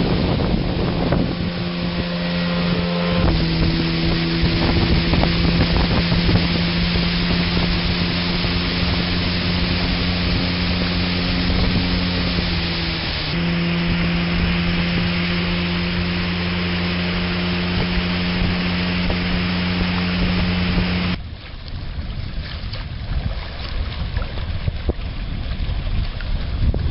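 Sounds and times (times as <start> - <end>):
outboard motor drone: 0.0 - 26.9
water rushing along hull: 0.0 - 26.9
wind noise: 0.0 - 26.9.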